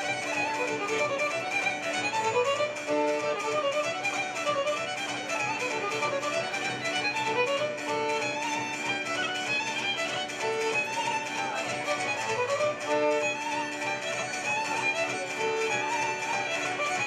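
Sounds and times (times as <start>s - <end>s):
fiddle playing folk dance tune: 0.0s - 17.0s.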